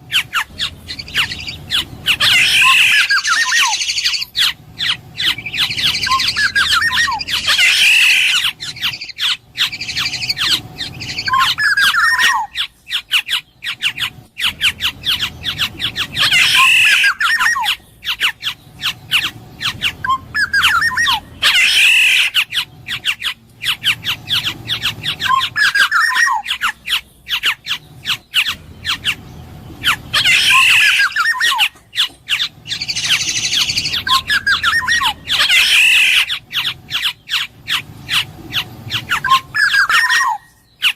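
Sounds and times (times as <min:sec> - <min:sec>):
bird whistling and squawking: 0:00.0 - 0:40.9.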